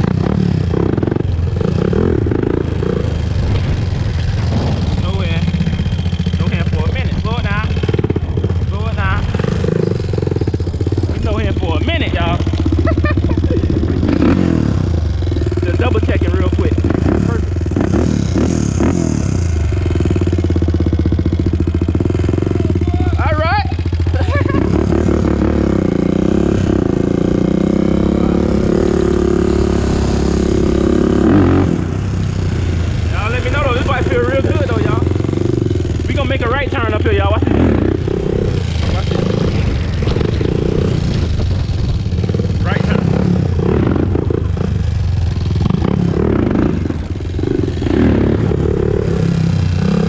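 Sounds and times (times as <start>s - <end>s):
quad engine running: 0.0s - 50.0s.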